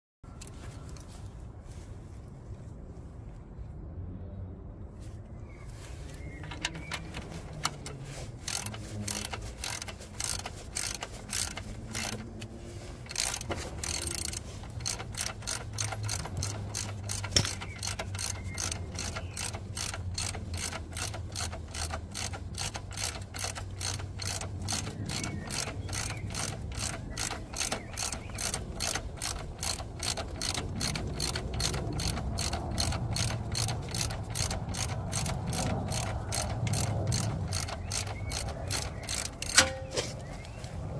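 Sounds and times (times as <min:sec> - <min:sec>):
socket ratchet clicking: 0:06.3 - 0:40.0.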